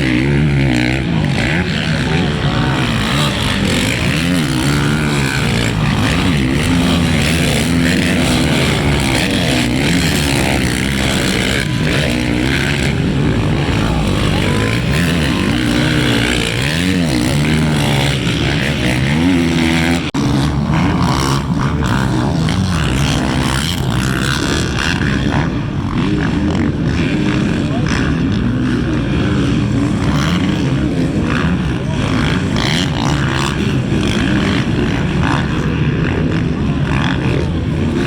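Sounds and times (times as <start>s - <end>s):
motocross bike engines revving: 0.0s - 38.0s
steady background rush: 0.0s - 38.0s.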